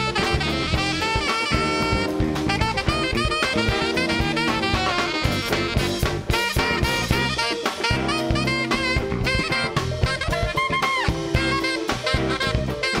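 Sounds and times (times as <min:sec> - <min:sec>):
drum kit: 0:00.0 - 0:13.0
saxophone solo: 0:00.0 - 0:13.0
steady bass line: 0:00.0 - 0:13.0.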